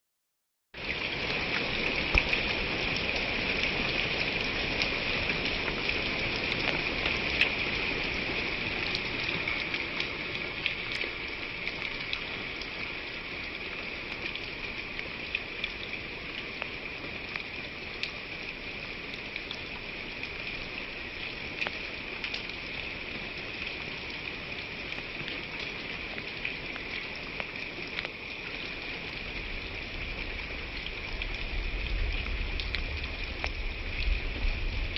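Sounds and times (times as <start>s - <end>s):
rain falling: 0.8s - 34.9s.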